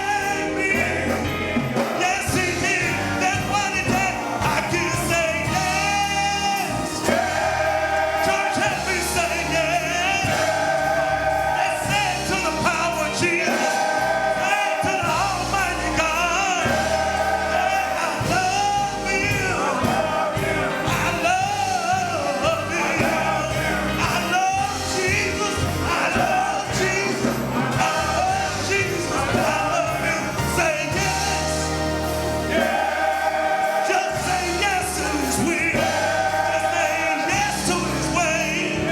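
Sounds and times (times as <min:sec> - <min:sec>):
choir singing gospel song: 0:00.0 - 0:38.9
steady bass line: 0:00.0 - 0:38.9.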